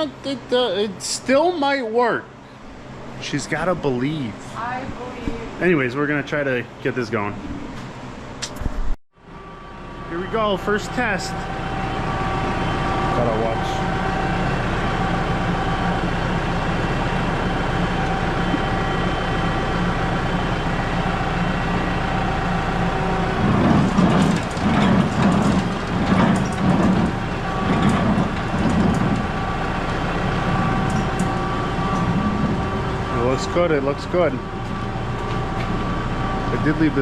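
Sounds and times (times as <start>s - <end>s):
tractor engine running: 0.0s - 8.4s, 9.3s - 37.0s.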